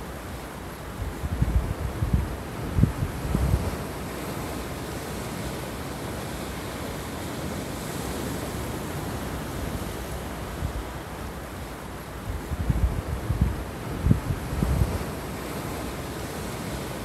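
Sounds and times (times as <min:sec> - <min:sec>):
sea surf breaking on rocks: 0:00.0 - 0:17.0
wind buffeting microphone: 0:00.9 - 0:11.1, 0:12.2 - 0:17.0.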